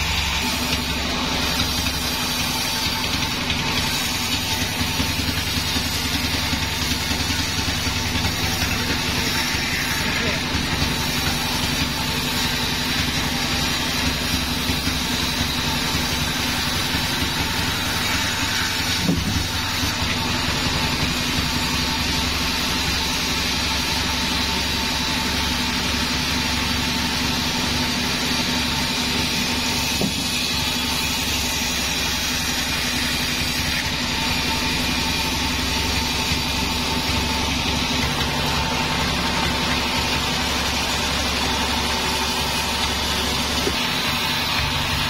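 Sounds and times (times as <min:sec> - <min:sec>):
log bandsaw running: 0:00.0 - 0:45.0.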